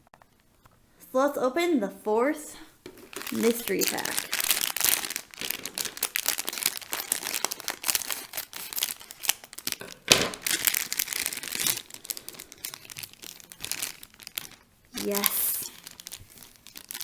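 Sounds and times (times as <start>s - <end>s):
wrapper crinkling and tearing: 2.8s - 17.0s
wrapper ripping: 2.8s - 17.0s.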